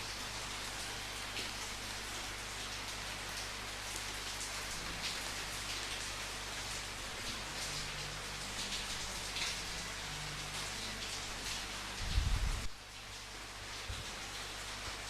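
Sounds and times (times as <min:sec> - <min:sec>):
rain falling on a surface: 0:00.0 - 0:15.0.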